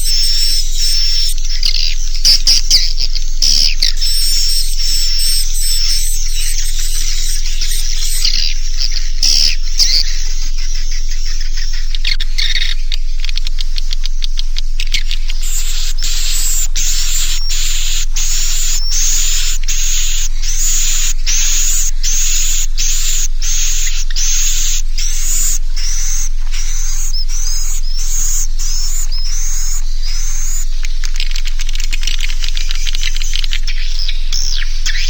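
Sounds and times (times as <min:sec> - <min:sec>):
buzzy bird chirps playback: 0:00.0 - 0:35.0
mains hum: 0:00.0 - 0:35.0.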